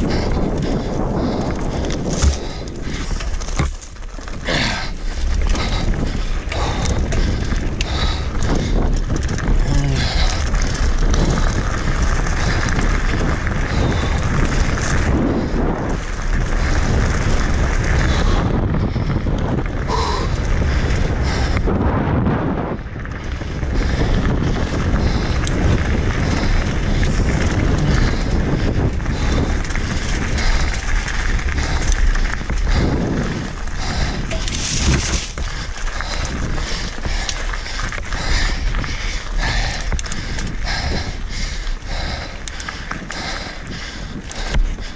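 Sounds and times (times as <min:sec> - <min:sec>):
bike clattering over rough ground: 0:00.0 - 0:44.9
tyres on gravel: 0:00.0 - 0:44.9
wind buffeting microphone: 0:00.0 - 0:44.9.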